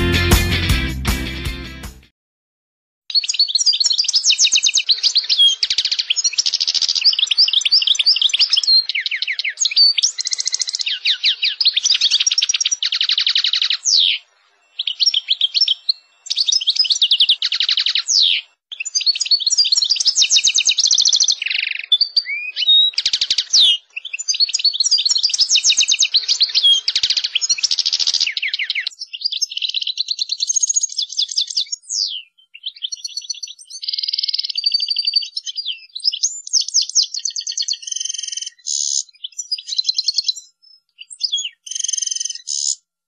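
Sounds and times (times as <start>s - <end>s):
goldfinch singing trills: 3.1s - 42.8s.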